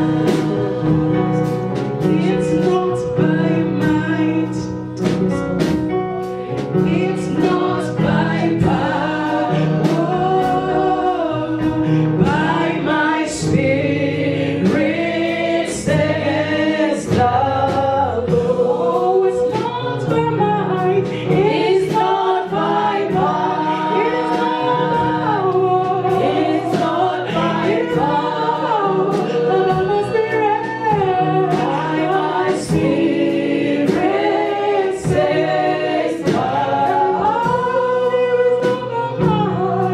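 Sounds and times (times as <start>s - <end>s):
voices singing together: 0.0s - 5.2s, 6.4s - 39.9s
keyboard and bass chords: 0.0s - 39.9s
steady drum beat: 0.0s - 39.9s.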